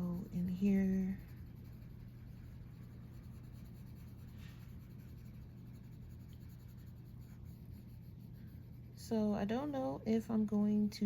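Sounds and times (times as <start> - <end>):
pencil scratching on paper: 0.0 - 10.2
steady low hum: 0.0 - 11.0.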